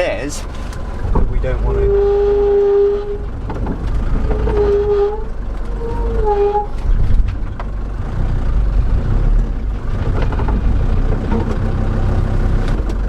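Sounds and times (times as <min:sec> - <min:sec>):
van engine running under load: 0:00.0 - 0:13.0.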